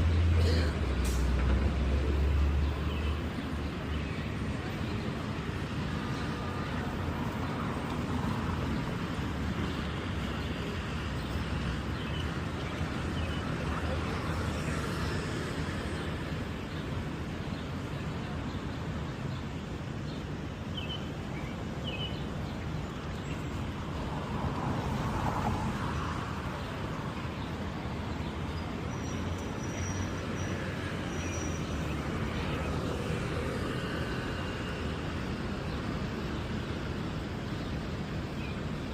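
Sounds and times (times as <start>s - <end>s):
traffic rumble: 0.0s - 38.9s.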